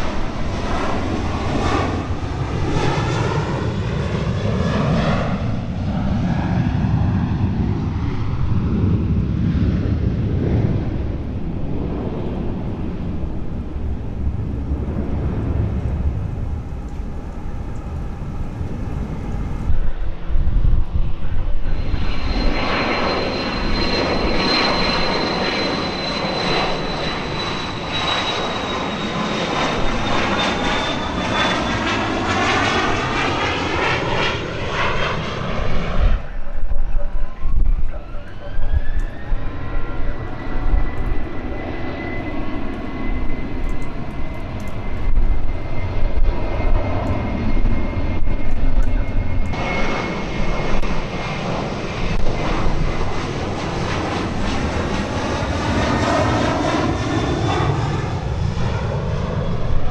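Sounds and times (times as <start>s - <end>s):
turbine engine roar: 0.0s - 59.9s
high engine whine: 9.8s - 20.0s, 21.2s - 36.5s, 37.2s - 59.9s.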